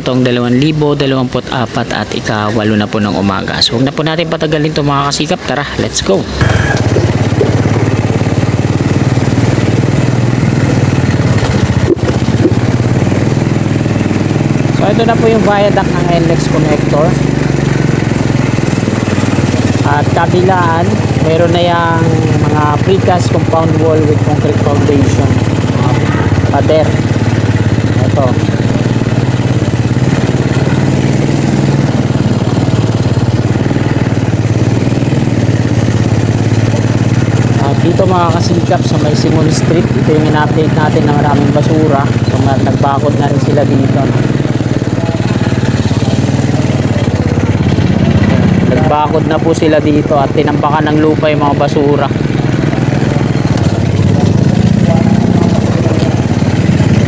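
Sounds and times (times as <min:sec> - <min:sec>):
small engine humming: 0:00.0 - 0:57.0.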